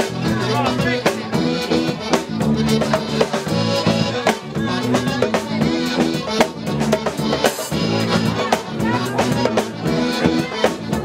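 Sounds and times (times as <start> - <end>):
drum strikes: 0.0 - 11.0
guitar: 0.0 - 11.0
tuba bass line: 0.0 - 11.0.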